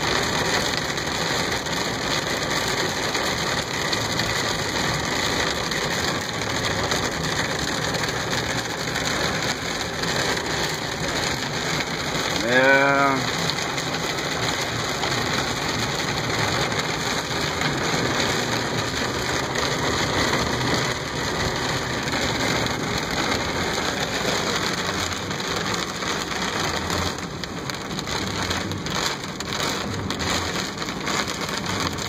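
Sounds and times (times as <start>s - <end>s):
heavy rain on car roof: 0.0s - 32.0s.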